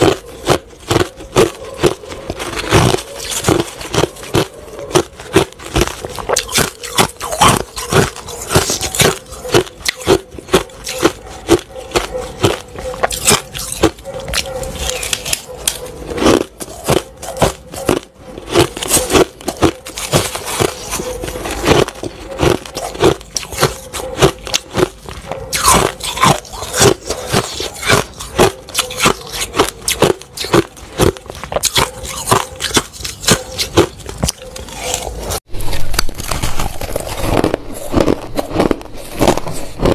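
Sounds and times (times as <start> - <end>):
chewing crushed ice: 0.0 - 39.9
spoon scraping ice in glass bowl: 0.0 - 39.9.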